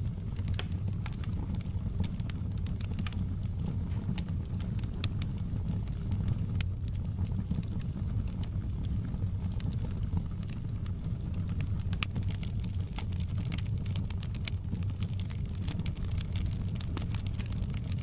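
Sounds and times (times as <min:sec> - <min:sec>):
fire crackling: 0:00.0 - 0:18.0
low rumble of flames: 0:00.0 - 0:18.0
sharp pops of fire: 0:00.0 - 0:18.0.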